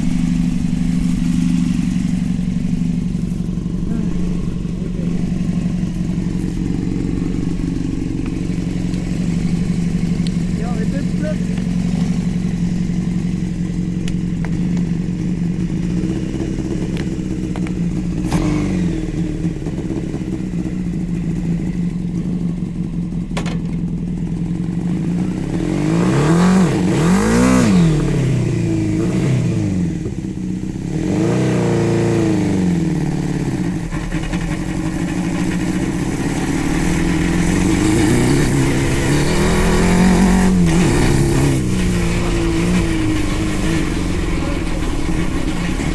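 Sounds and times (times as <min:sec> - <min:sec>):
go-kart engine revving: 0:00.0 - 0:45.9.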